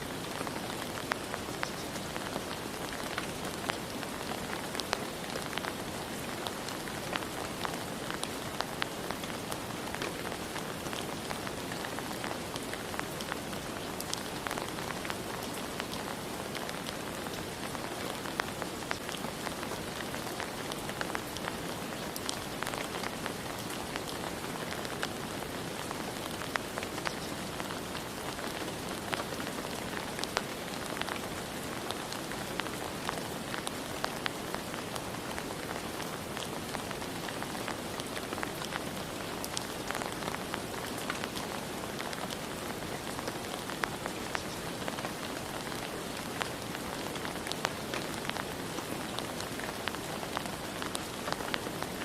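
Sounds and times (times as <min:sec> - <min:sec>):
raindrops ticking on a surface: 0:00.0 - 0:52.0
steady rain hiss: 0:00.0 - 0:52.0.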